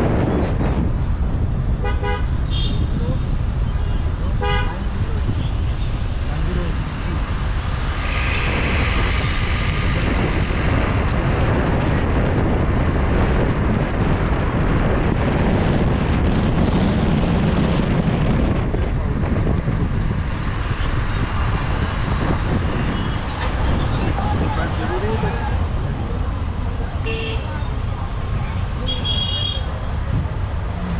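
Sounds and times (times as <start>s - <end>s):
road and wind noise: 0.0s - 30.9s
surrounding traffic: 0.0s - 30.9s.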